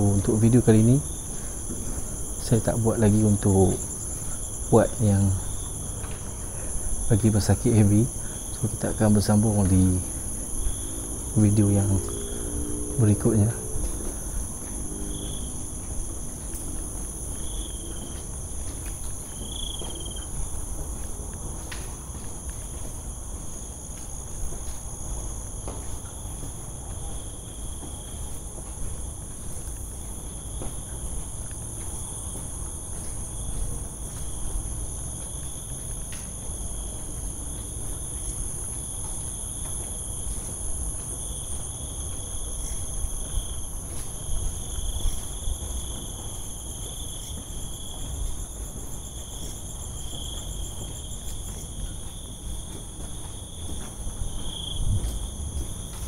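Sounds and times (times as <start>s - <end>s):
insects chirping: 0.0s - 56.0s
lower insect chirp: 0.0s - 56.0s.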